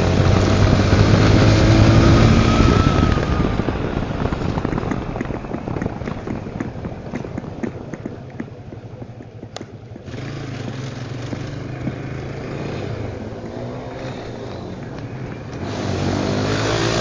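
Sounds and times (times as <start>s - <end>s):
engine popping: 0.0s - 17.0s
motorcycle engine: 0.0s - 17.0s.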